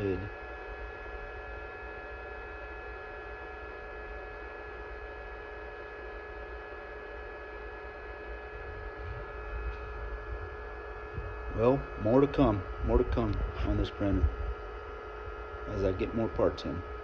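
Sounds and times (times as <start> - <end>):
printer humming: 0.0 - 17.0.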